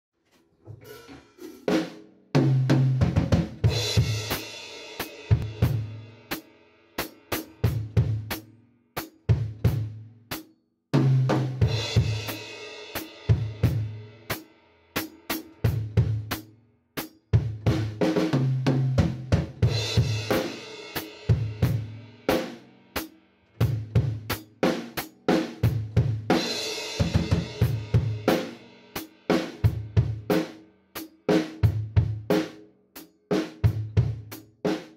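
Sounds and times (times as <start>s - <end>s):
snare and bass drum groove: 0.8s - 32.6s, 33.3s - 34.9s.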